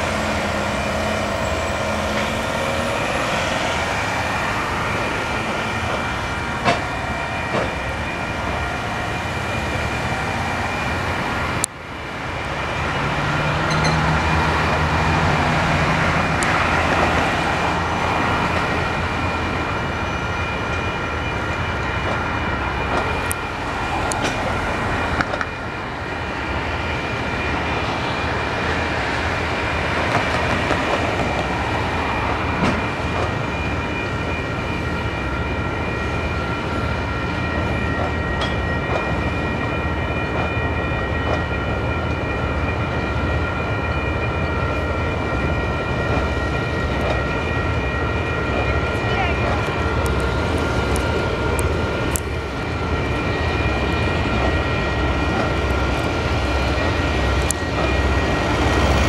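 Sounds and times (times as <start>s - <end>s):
crossing warning bell ringing: 0.0s - 59.0s
train carriages rolling: 0.0s - 59.0s.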